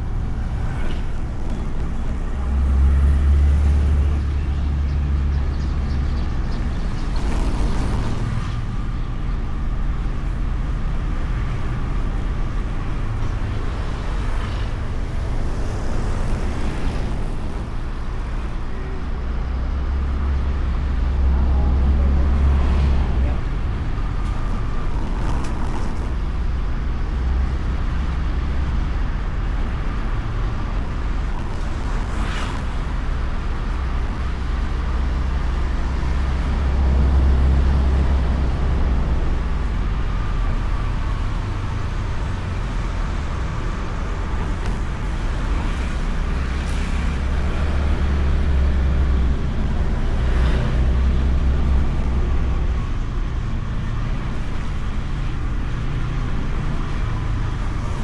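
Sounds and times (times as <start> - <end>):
scooter engine rumbling: 0.0 - 58.0.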